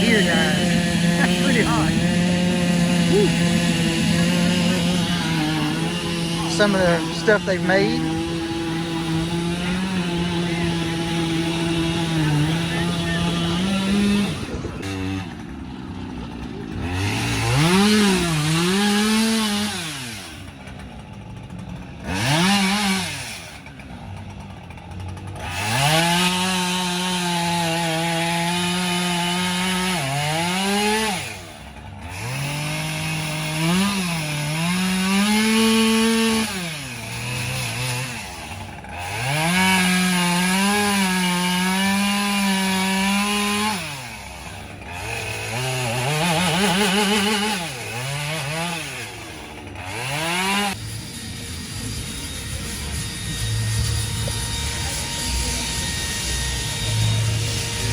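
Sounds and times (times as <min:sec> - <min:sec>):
chainsaw carving wood: 0:00.0 - 0:57.9.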